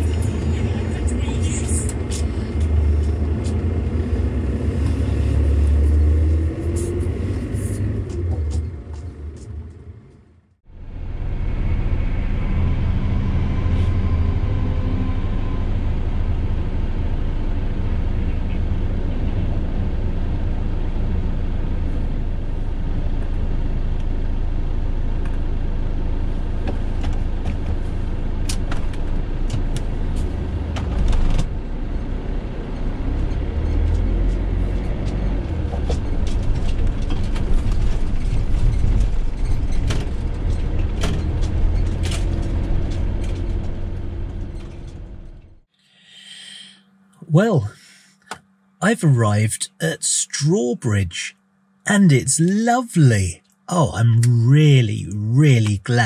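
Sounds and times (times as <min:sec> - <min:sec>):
diesel engine rumble: 0:00.0 - 0:48.1
road noise: 0:00.0 - 0:56.0.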